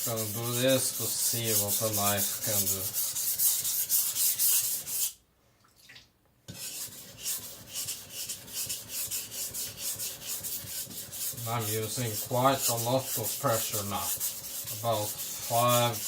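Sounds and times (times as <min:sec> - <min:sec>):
blade scraping on whetstone: 0:00.0 - 0:05.2, 0:06.6 - 0:16.0.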